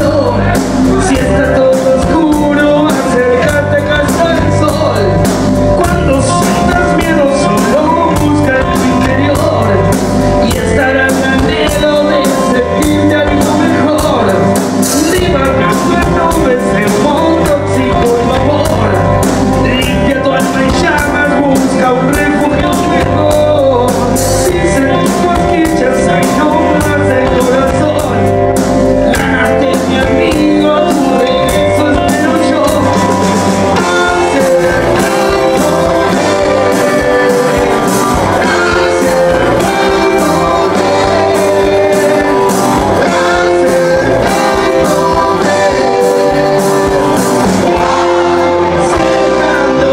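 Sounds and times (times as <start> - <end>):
person singing: 0.0 - 49.9
rock band playing: 0.0 - 49.9.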